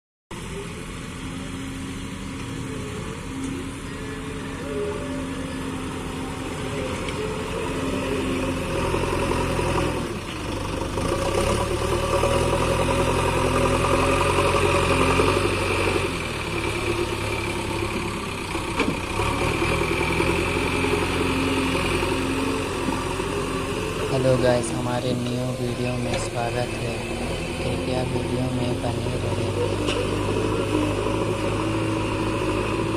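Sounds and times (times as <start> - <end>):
diesel engine revving: 0.3 - 32.9.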